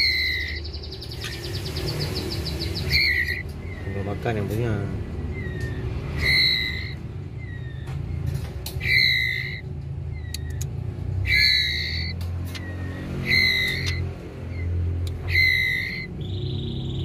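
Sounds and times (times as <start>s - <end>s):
chicks begging calls: 0.0s - 17.0s.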